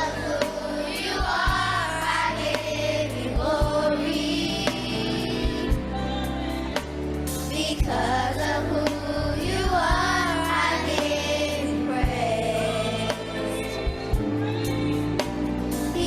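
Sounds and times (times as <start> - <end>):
choir singing: 0.0 - 6.9, 7.5 - 15.0
bass and drums: 0.0 - 16.0.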